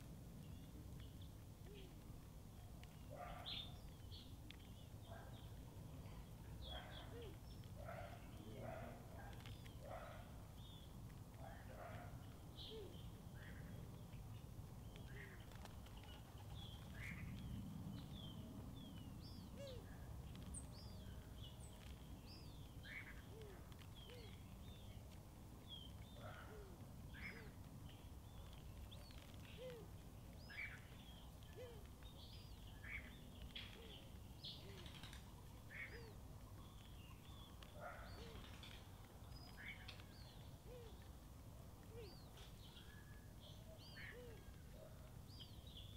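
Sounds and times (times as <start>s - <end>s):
birds chirping: 2.6s - 41.2s, 41.8s - 45.9s.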